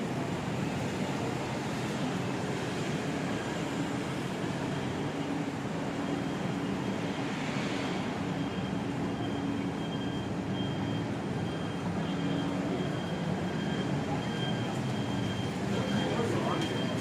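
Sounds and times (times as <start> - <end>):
traffic rumble with low hum: 0.0 - 17.0.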